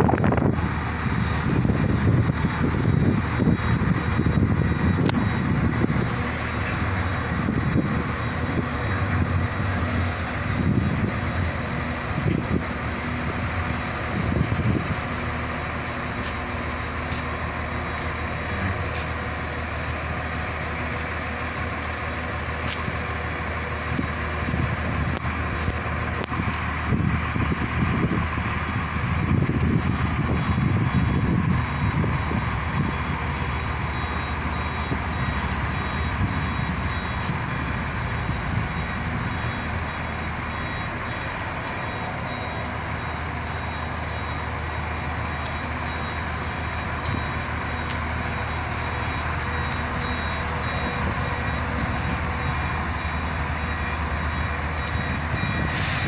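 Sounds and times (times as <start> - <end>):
wind buffeting microphone: 0.0 - 20.3, 22.4 - 56.0
bus engine running: 0.0 - 56.0.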